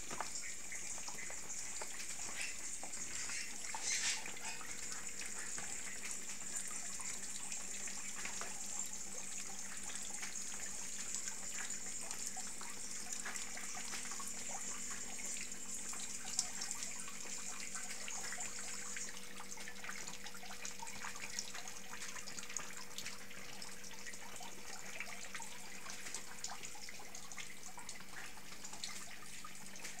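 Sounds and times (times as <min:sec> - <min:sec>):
water dripping into buckets: 0:00.0 - 0:30.0.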